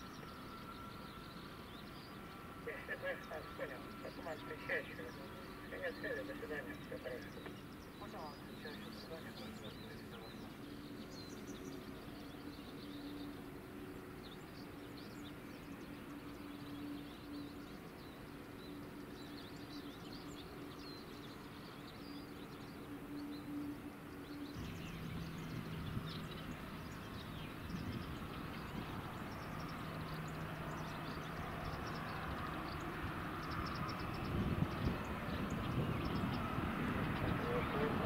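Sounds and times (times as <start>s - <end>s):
distant jet engines humming: 0.0s - 38.0s
small birds chirping: 0.0s - 38.0s.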